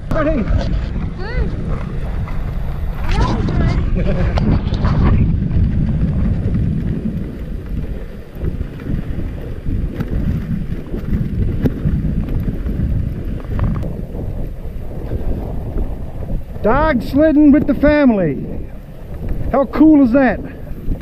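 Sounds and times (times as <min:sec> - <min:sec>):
wind noise on microphone: 0:00.0 - 0:21.0
sled knocking on bumps: 0:00.1 - 0:20.1
sled runners sliding on snow: 0:00.2 - 0:21.0.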